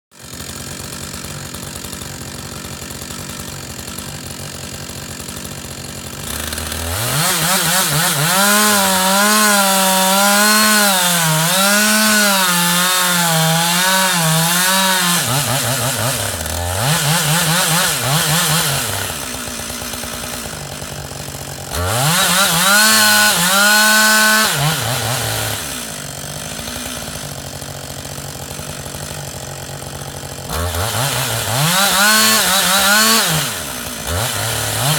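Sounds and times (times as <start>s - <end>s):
chainsaw idling and revving: 0.1s - 34.9s.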